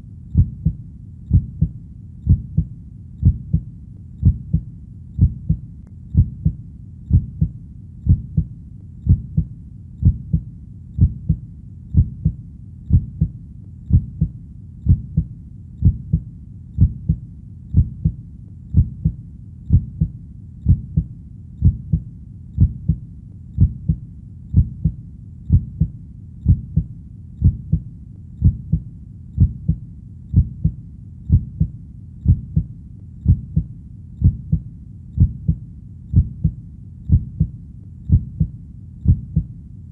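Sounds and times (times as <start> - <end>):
heartbeat thumping: 0.3 - 23.0, 23.6 - 39.6.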